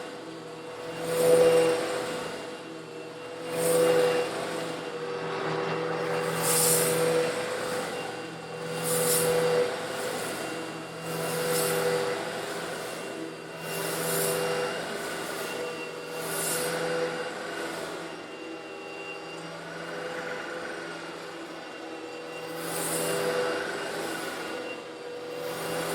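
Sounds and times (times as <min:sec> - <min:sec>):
vacuum cleaner motor running: 0:00.0 - 0:25.9.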